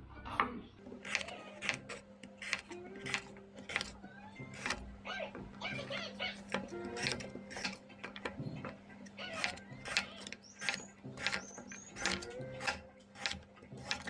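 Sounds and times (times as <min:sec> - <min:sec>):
knife slicing carrot on board: 0:00.8 - 0:14.0.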